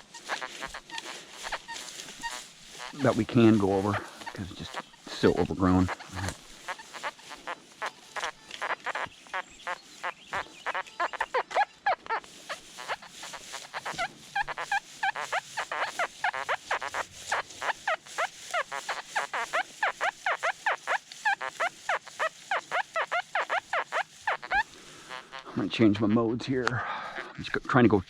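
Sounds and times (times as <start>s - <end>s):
metal detector warbling chirps: 0.0s - 24.6s.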